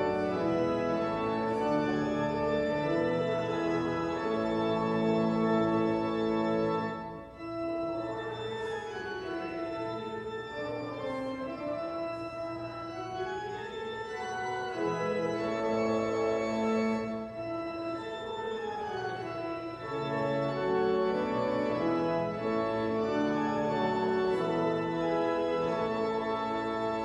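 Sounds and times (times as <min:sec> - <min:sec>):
church organ chords: 0:00.0 - 0:27.0.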